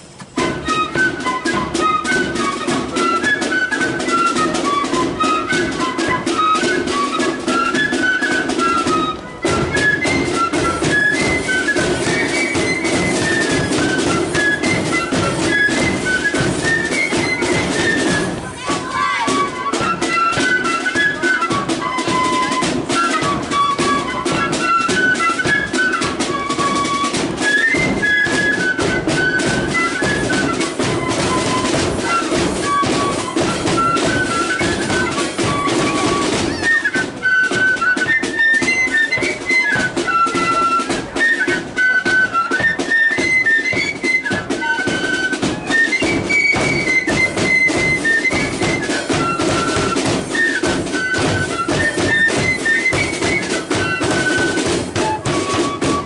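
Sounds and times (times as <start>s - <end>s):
flutes playing melody: 0.0s - 56.0s
snare and bass drums: 0.0s - 56.0s.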